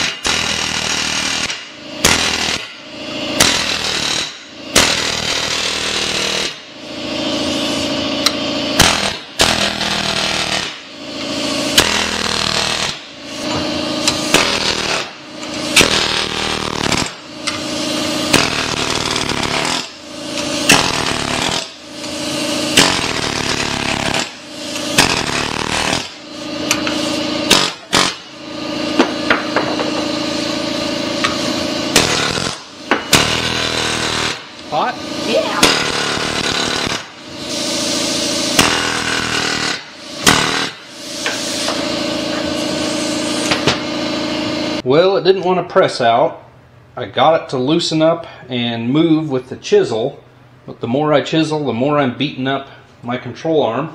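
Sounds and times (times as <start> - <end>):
pneumatic air hammer rattling: 0.0 - 44.8.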